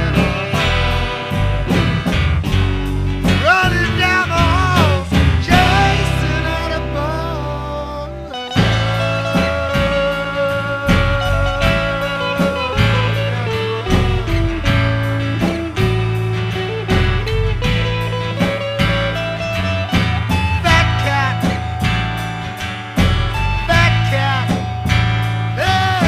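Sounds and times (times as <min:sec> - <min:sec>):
steady drum beat: 0:00.0 - 0:07.4, 0:08.3 - 0:26.0
bass guitar: 0:00.0 - 0:26.0
lead guitar bending notes: 0:00.0 - 0:26.0.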